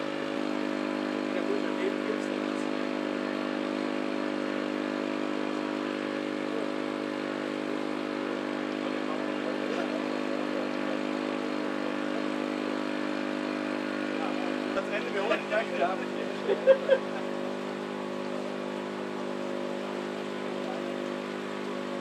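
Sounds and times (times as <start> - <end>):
combustion engine idling: 0.0 - 22.0.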